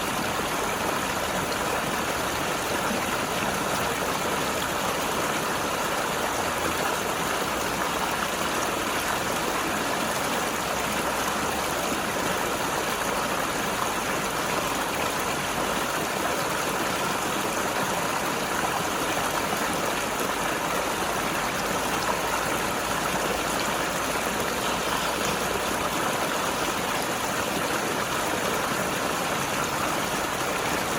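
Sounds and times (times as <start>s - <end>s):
river rushing over rocks: 0.0s - 30.9s.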